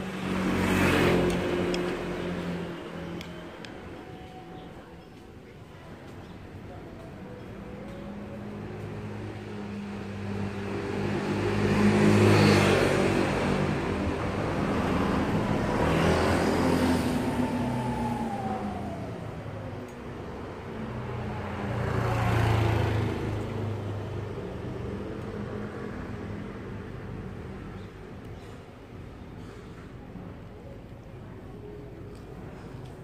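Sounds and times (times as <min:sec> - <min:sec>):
vehicles passing on street: 0:00.0 - 0:33.0.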